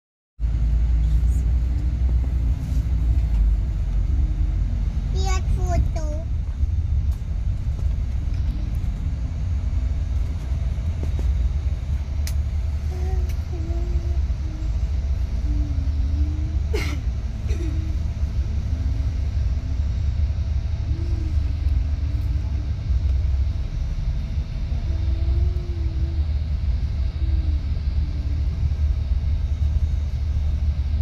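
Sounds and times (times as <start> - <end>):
faint steady hum: 0.4 - 31.0
moving bus rumble: 0.4 - 31.0.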